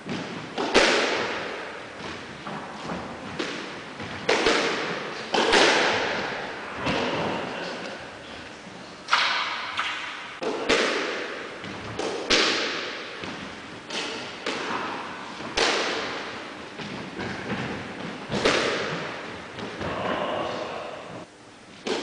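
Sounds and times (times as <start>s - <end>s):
squash ball cracking off rackets and walls: 0.0s - 7.9s, 9.1s - 22.0s.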